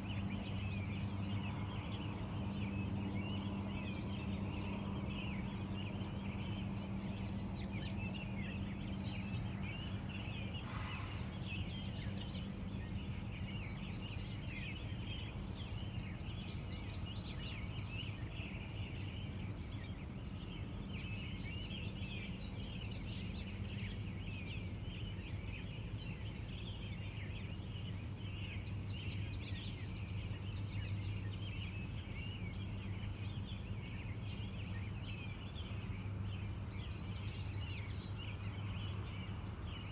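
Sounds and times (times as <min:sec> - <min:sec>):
birds chirping and trilling: 0:00.1 - 0:39.9.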